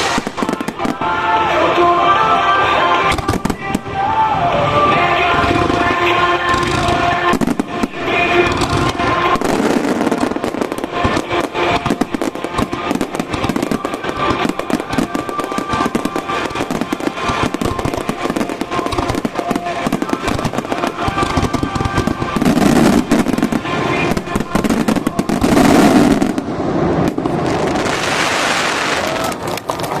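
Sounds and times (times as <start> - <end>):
music: 0.0 - 28.6
fireworks bursting and crackling: 0.0 - 30.0.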